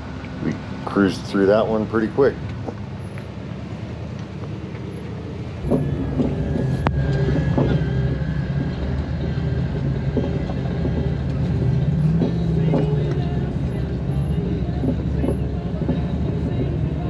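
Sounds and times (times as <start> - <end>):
car engine at low speed: 0.0 - 17.0.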